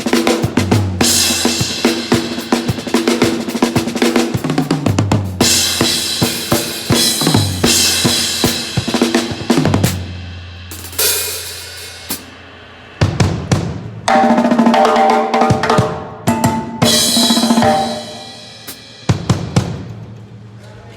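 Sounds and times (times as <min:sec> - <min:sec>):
drum kit playing a beat: 0:00.0 - 0:12.4, 0:13.0 - 0:20.2.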